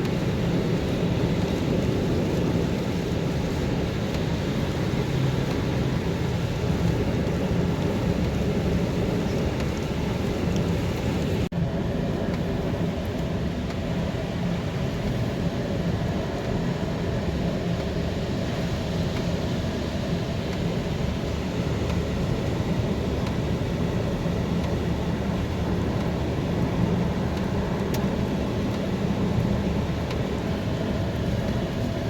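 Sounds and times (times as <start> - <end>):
car road and engine noise: 0.0 - 32.0.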